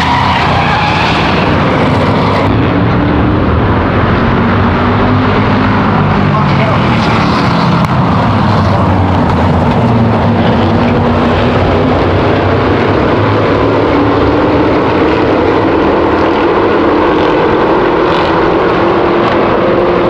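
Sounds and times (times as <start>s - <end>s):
race car engines droning: 0.0s - 20.0s.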